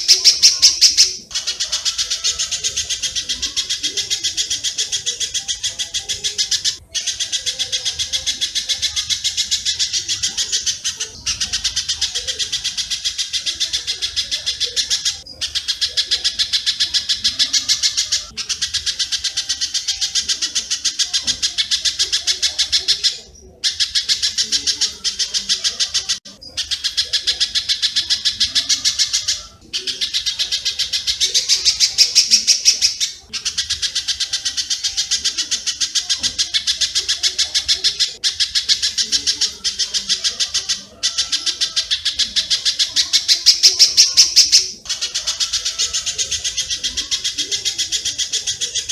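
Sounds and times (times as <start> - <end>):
faint lower bird calls: 0.0 - 48.9
rapid high bird chirps: 0.0 - 48.9.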